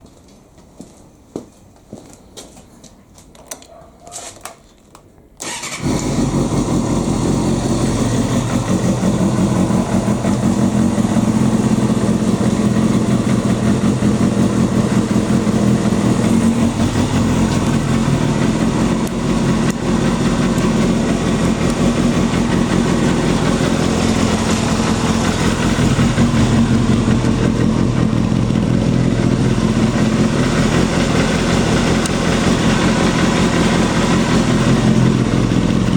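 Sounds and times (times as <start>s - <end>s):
motorcycle engine starting and idling: 5.4s - 35.9s.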